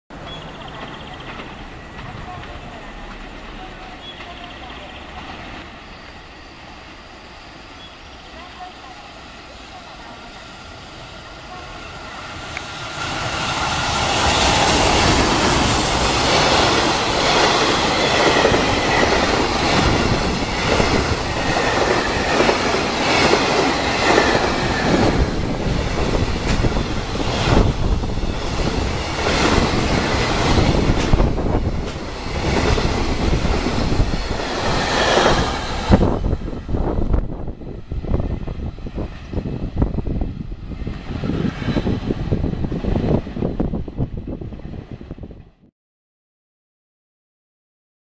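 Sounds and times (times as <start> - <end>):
train rumbling past: 0.1 - 45.7.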